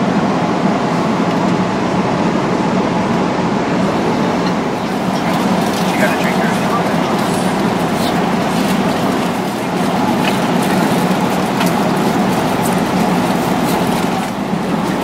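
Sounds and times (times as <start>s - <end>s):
airplane cabin engine roar: 0.0s - 15.0s.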